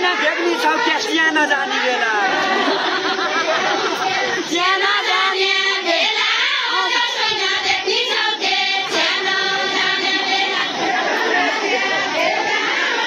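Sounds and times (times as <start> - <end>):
group of high voices singing: 0.0 - 13.0.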